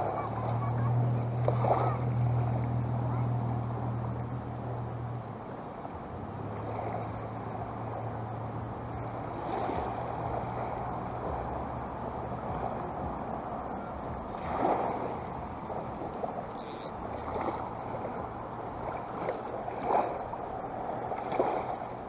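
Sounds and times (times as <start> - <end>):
small waves lapping: 0.0 - 22.0.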